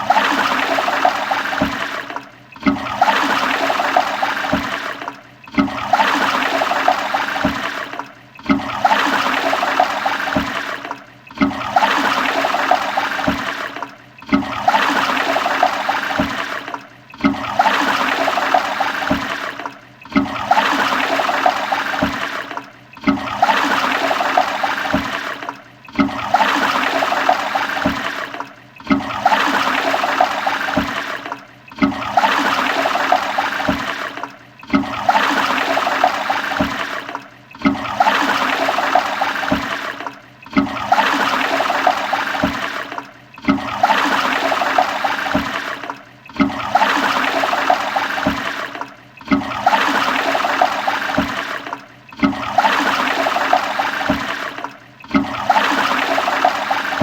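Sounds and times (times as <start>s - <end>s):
toilet flushing: 0.0s - 57.0s.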